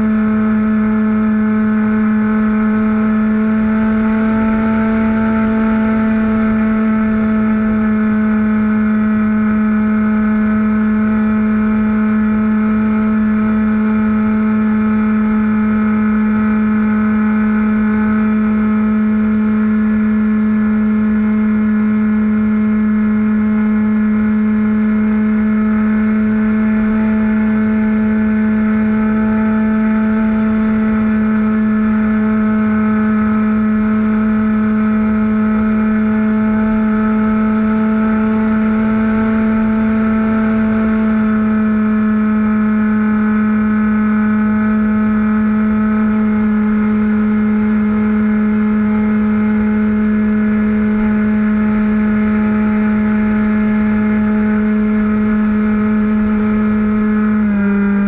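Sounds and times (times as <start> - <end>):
small aircraft propeller droning: 0.0 - 58.0.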